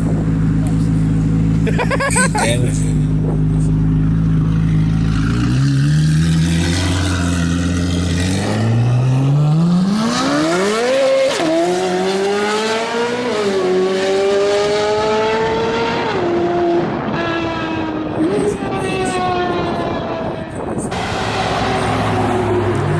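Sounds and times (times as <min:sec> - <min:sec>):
car engine accelerating hard: 0:00.0 - 0:22.9.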